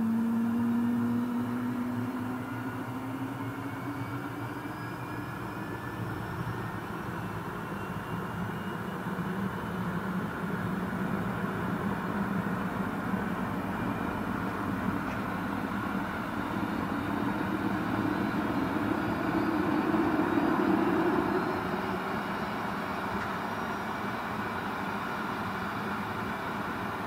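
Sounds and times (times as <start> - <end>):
faint rising whine: 0.0 - 27.0
jet engines rushing: 0.0 - 27.0.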